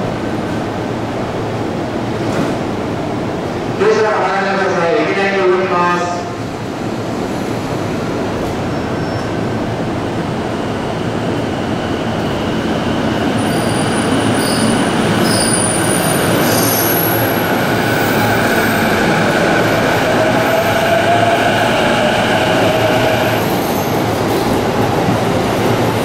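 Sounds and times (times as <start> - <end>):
electric train rolling rumble: 0.0 - 3.8, 6.2 - 26.0.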